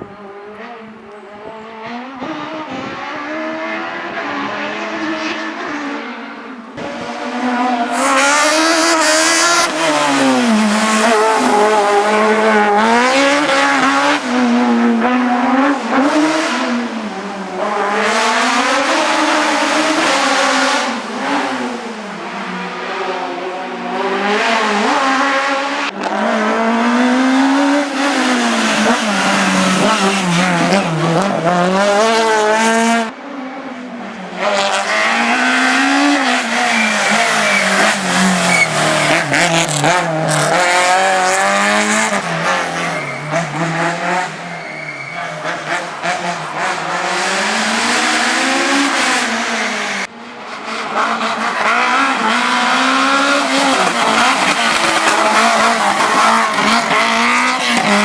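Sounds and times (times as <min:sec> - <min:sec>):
race car engine revving: 0:00.0 - 0:33.6, 0:34.3 - 0:58.0.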